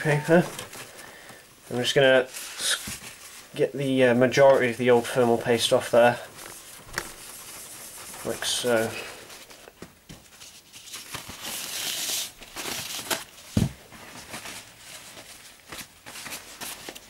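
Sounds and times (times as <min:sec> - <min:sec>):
tissue paper rustling: 0:00.0 - 0:17.0.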